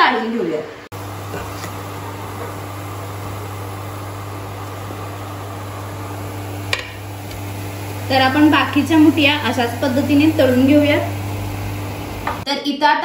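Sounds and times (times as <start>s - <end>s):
electrical hum and fan whir: 0.0s - 12.5s.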